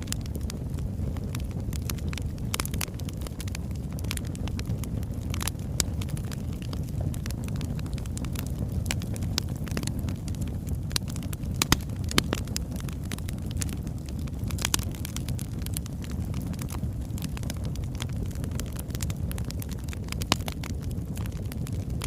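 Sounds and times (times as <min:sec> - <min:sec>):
steady low rumble: 0:00.0 - 0:22.0
wood fire crackling: 0:00.0 - 0:22.0.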